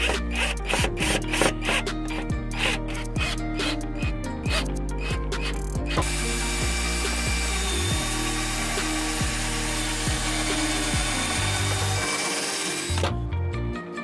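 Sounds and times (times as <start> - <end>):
cordless drill boring into wood: 0.0 - 3.8, 4.5 - 13.1.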